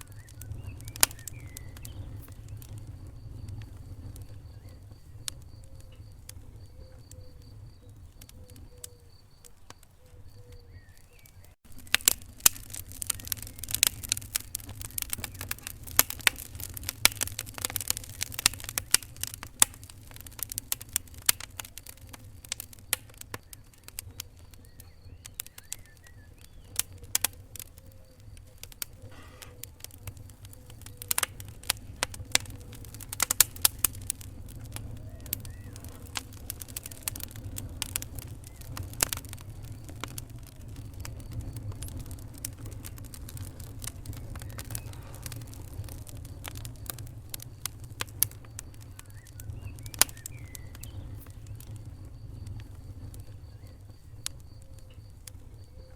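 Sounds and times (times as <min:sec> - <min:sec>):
sharp pops and snaps: 0:00.0 - 0:55.9
wood fire crackling: 0:00.0 - 0:55.9.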